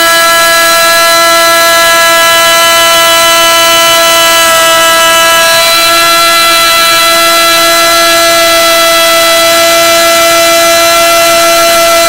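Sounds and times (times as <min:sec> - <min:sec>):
milling machine whining: 0:00.0 - 0:12.0.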